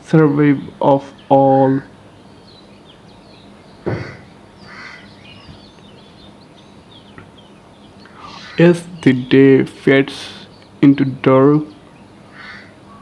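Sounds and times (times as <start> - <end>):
loud bird call: 0.0 - 13.0
small birds chirping: 0.0 - 13.0.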